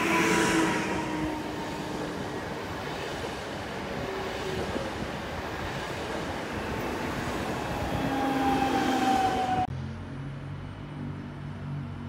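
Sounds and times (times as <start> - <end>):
train wheels rolling on rails: 0.0 - 9.7.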